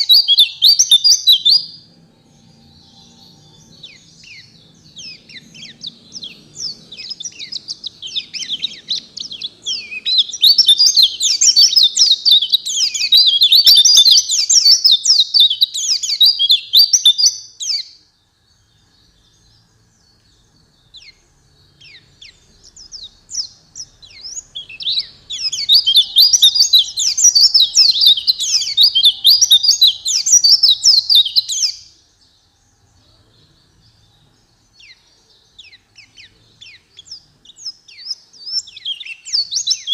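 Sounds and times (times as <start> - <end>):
bird twittering: 0.0 - 32.0, 34.8 - 39.9
high down-slurred bird calls: 0.0 - 39.9.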